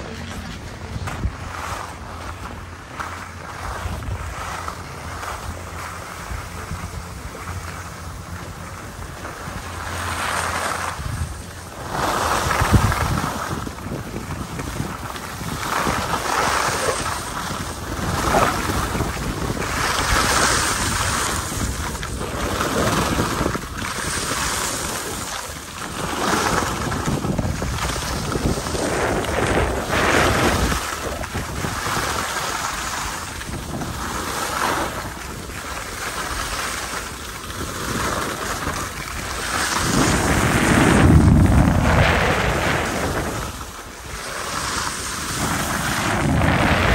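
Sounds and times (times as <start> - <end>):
edges carving packed snow: 0.0 - 46.9
wind rushing over microphone: 0.0 - 46.9.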